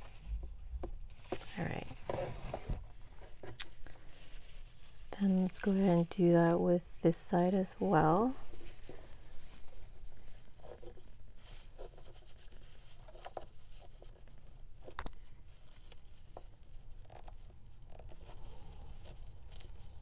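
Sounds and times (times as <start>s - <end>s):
rustles and scrapes of handling: 0.0s - 20.0s.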